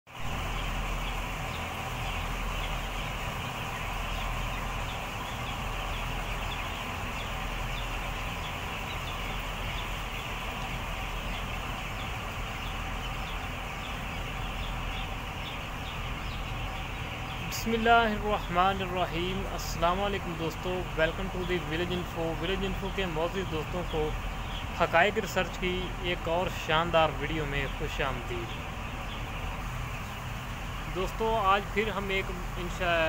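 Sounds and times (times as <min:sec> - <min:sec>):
chicks peeping: 0:00.1 - 0:33.0.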